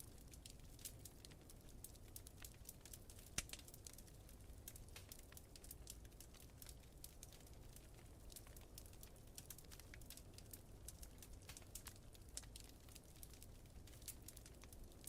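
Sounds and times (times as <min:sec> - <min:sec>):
fire low rumble: 0:00.0 - 0:15.0
wood fire crackling faintly: 0:00.0 - 0:15.0.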